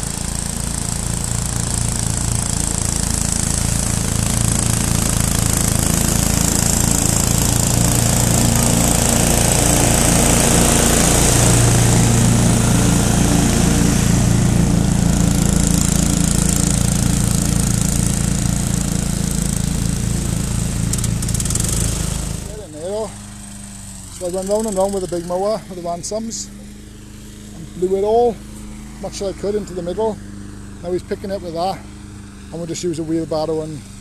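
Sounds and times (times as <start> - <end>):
lawn mower cutting grass: 0.0 - 34.0.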